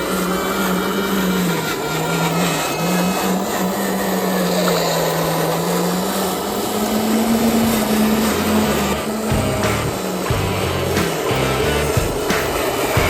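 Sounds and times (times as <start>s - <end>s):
toy truck electric motor buzzing: 0.0s - 13.0s.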